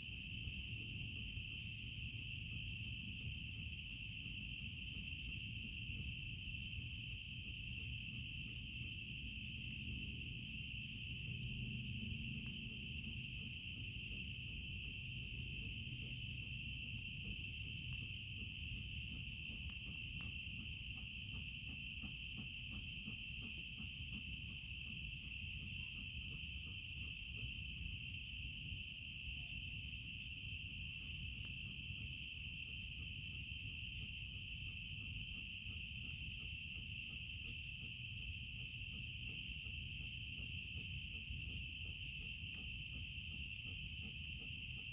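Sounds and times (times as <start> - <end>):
night insects trilling: 0.0 - 44.9.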